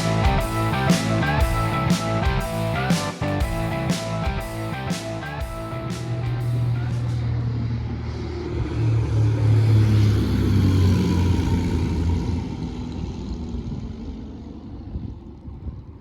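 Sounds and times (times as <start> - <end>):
light aircraft engine running: 0.0 - 16.0.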